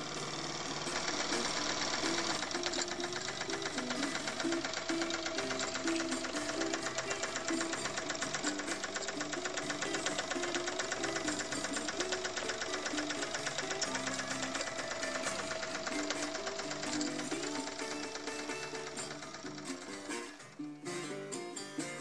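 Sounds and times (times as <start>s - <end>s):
toy steam engine clatter: 0.0s - 22.0s.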